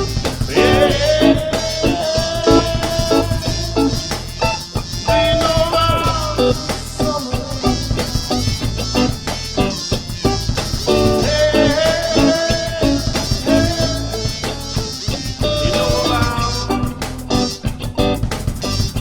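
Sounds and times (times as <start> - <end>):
drums steady beat: 0.0 - 19.0
guitar: 0.0 - 19.0.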